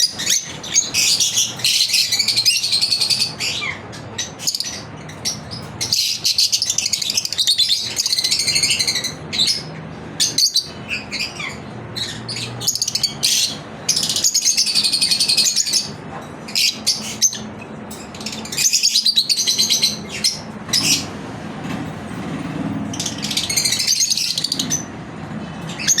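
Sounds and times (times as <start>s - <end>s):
lovebirds chirping: 0.0s - 21.2s.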